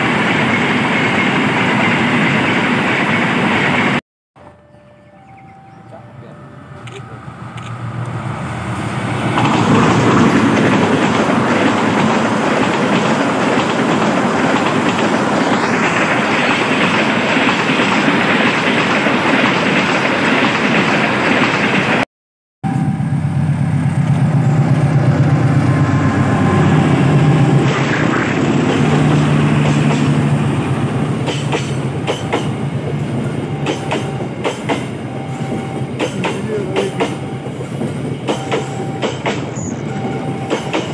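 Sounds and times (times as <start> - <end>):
train passing close by: 0.0 - 22.0, 22.7 - 40.9.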